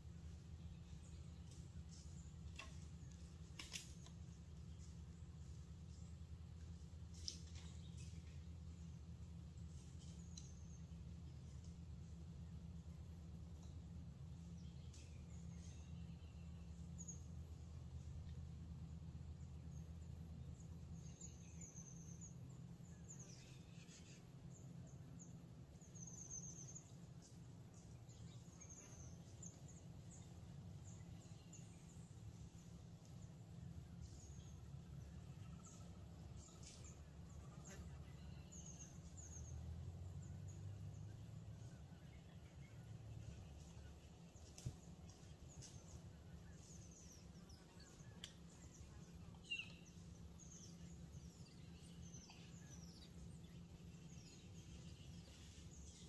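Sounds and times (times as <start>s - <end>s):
low outdoor rumble: 0.0s - 56.0s
small birds chirping: 0.0s - 56.0s.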